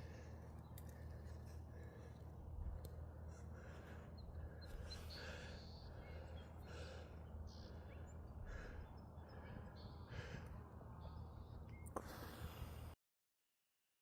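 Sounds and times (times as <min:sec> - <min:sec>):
breathing: 0:00.0 - 0:10.8, 0:11.9 - 0:13.0
low hum: 0:00.0 - 0:13.0.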